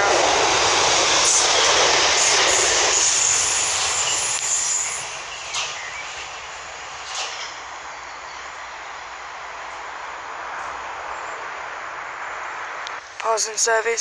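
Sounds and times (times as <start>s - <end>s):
train wheels rushing on rail: 0.0s - 13.1s.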